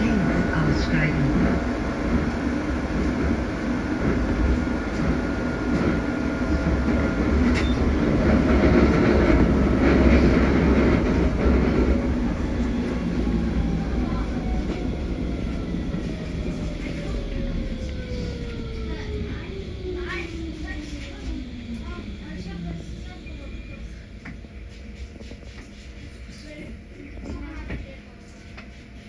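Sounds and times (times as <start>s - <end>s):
railway car rumbling: 0.0s - 29.0s.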